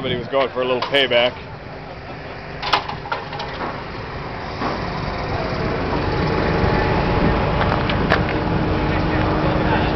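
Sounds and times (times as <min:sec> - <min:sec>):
vehicle engine running: 0:00.0 - 0:09.9.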